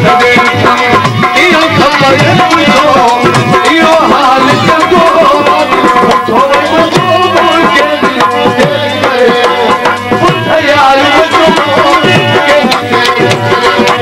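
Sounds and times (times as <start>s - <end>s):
hand drums: 0.0s - 14.0s
instrumental melody: 0.0s - 14.0s.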